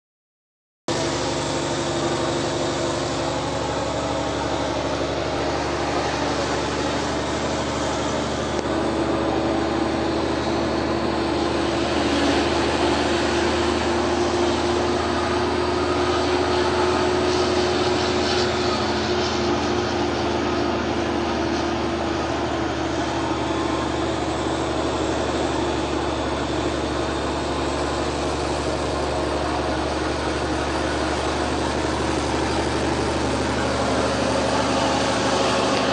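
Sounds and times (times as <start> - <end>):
steady whine: 0.9 - 35.9
truck diesel engine drone: 0.9 - 35.9.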